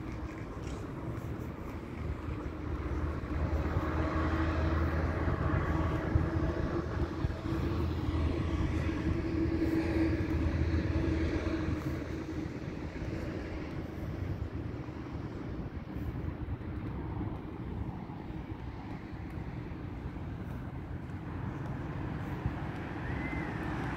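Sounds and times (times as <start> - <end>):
vehicle engine drone: 0.0 - 23.9.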